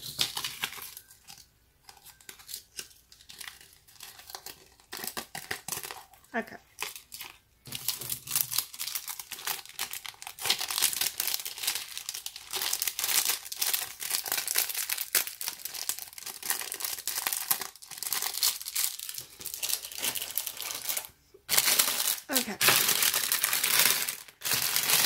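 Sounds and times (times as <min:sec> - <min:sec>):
plastic bag crinkling: 0:00.0 - 0:25.0.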